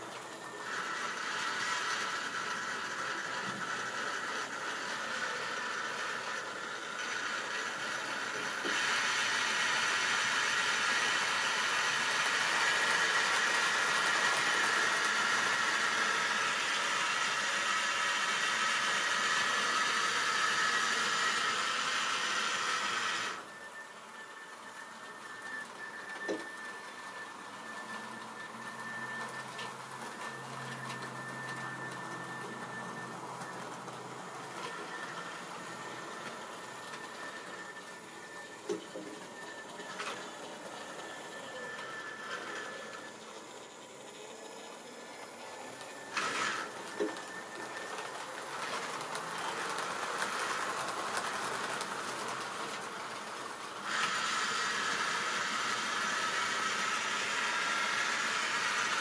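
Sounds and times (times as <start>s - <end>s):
model train motor whine: 0.0s - 59.0s.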